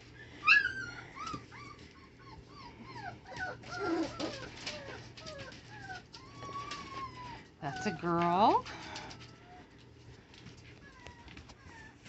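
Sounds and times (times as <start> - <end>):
puppies whimpering: 0.1 - 9.8, 10.7 - 12.0
paws clicking on newspaper: 1.2 - 12.0.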